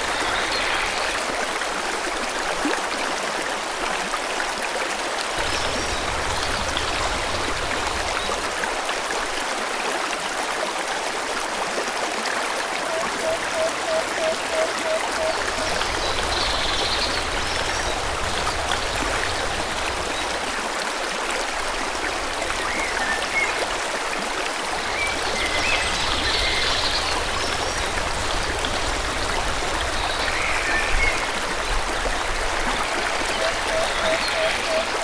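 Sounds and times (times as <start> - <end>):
stream water babbling: 0.0 - 35.0.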